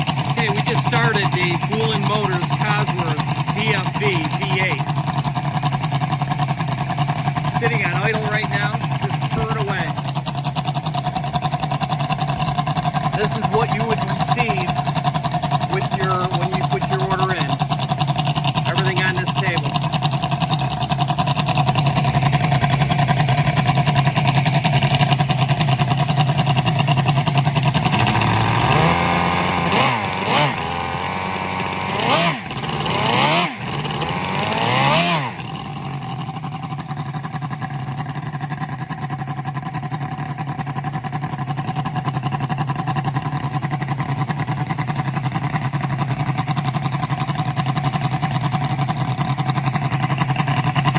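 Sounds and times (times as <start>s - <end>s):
model engine idling and revving: 0.0s - 50.9s.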